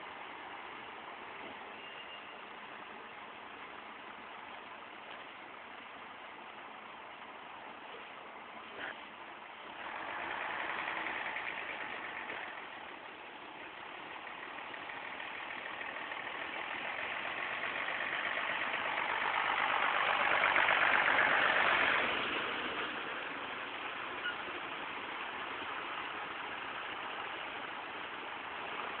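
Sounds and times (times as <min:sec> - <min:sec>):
truck diesel engine under load: 0:02.6 - 0:29.0.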